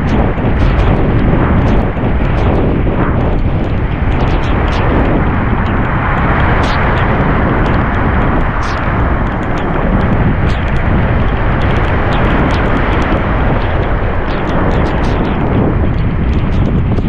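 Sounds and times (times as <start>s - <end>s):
heavy rain: 0.0s - 17.0s
sharp ticks: 0.0s - 17.0s
surf: 0.0s - 17.0s
wind buffeting microphone: 0.0s - 17.0s.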